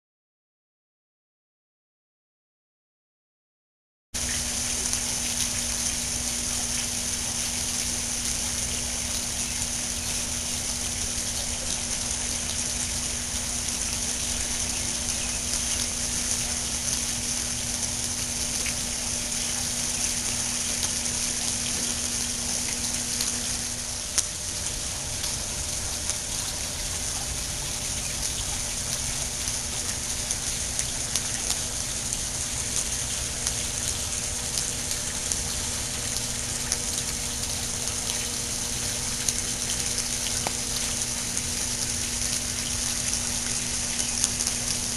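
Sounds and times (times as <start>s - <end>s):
faint steady hum: 4.2s - 44.9s
fountain water splashing: 4.2s - 44.9s.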